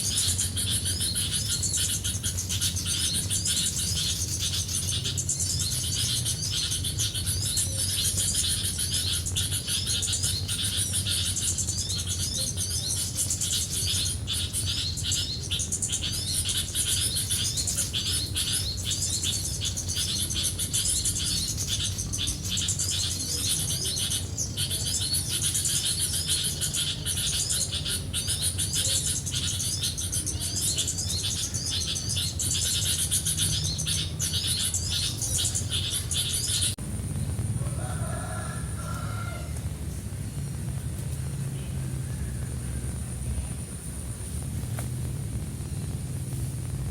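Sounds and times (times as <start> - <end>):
small birds chirping: 0.0 - 46.9
steady high hiss: 0.0 - 46.9.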